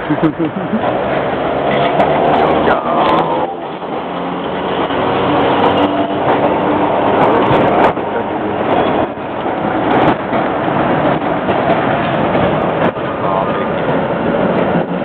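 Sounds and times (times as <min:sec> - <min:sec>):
tram wheels rumbling on rails: 0:00.0 - 0:15.0
wheels clicking over rail joints: 0:00.0 - 0:15.0.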